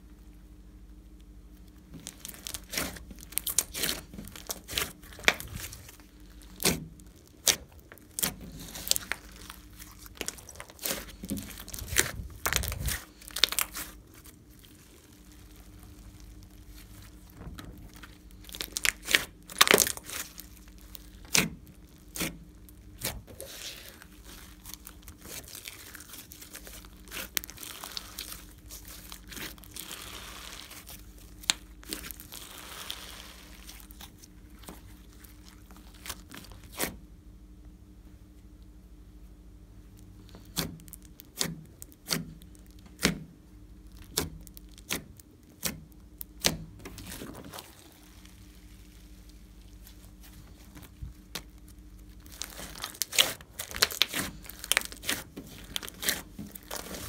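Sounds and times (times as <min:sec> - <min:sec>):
slime popping and crackling: 0:01.7 - 0:37.0, 0:43.8 - 0:57.0.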